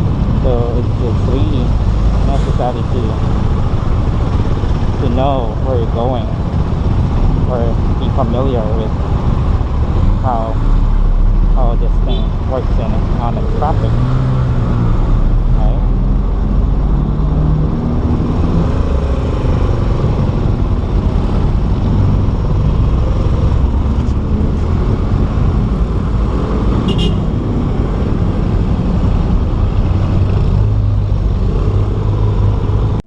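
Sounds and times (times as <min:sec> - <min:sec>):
road and wind noise: 0:00.0 - 0:33.0.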